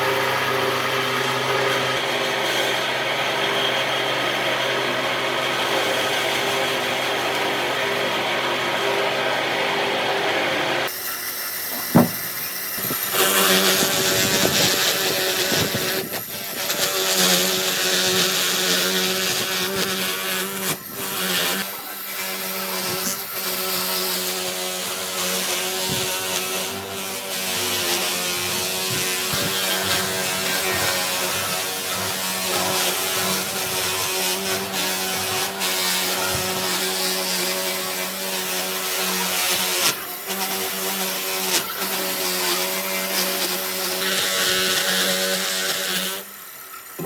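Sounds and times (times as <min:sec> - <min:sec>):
power tool cutting wood: 0:00.0 - 0:47.0
power tool motor hum: 0:00.0 - 0:47.0.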